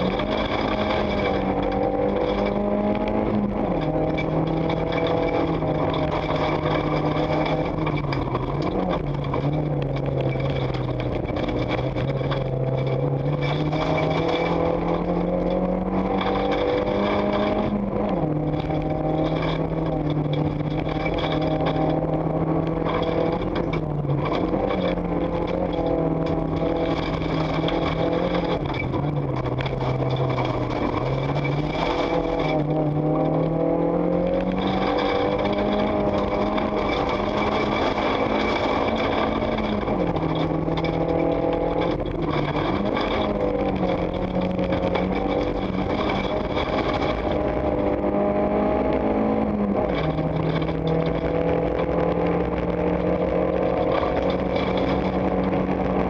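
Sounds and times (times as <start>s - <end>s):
gravel and road noise: 0.0s - 56.0s
rally car engine revving: 0.0s - 56.0s.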